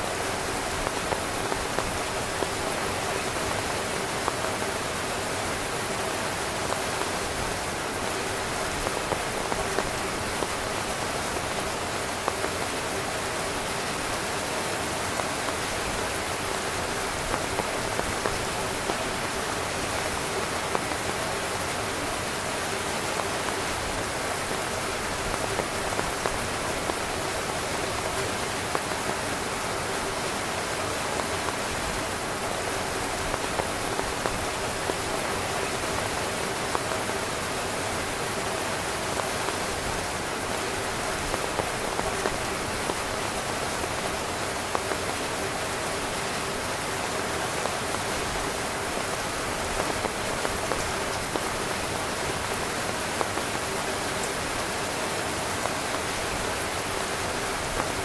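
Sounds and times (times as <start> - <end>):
heavy rain on tent fabric: 0.0 - 58.0.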